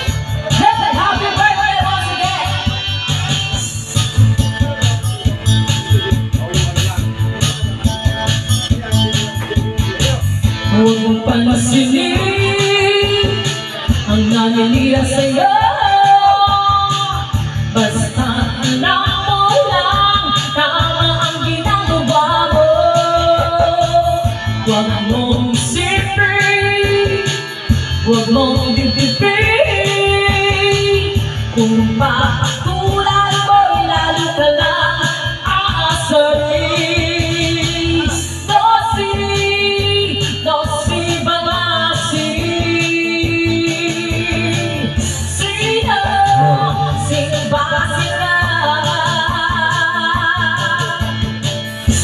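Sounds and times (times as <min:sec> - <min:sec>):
woman singing into a microphone: 0:00.0 - 0:05.5, 0:09.8 - 0:52.0
backing track with beat and guitar: 0:00.0 - 0:52.0.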